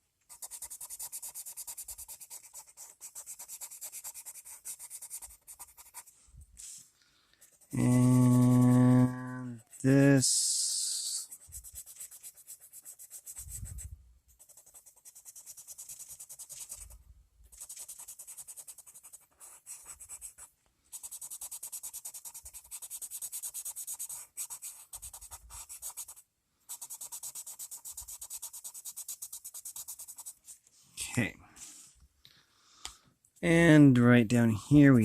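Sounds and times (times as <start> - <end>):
pencil scratching on paper: 0.3 - 6.8, 7.4 - 9.8, 11.2 - 30.6.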